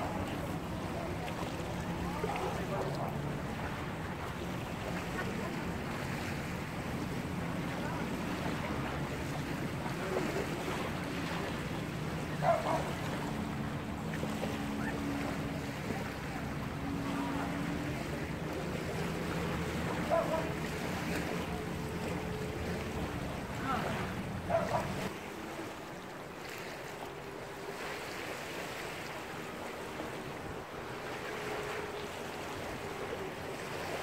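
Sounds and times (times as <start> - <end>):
small waves lapping: 0.0 - 34.0.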